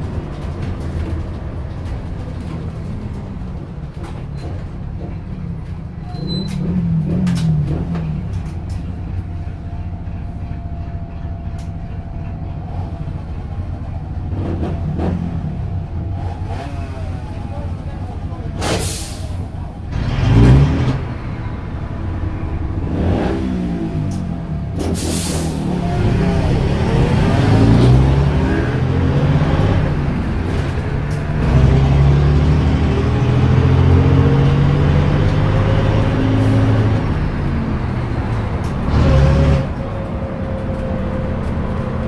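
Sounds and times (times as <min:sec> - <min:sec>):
bus diesel engine accelerating: 0:00.0 - 0:42.0.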